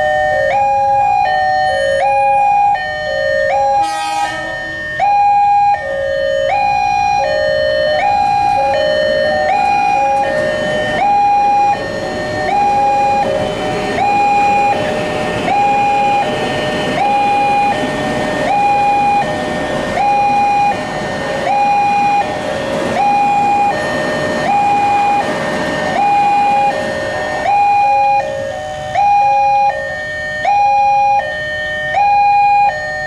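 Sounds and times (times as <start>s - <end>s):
two-tone level crossing alarm: 0.0s - 33.0s.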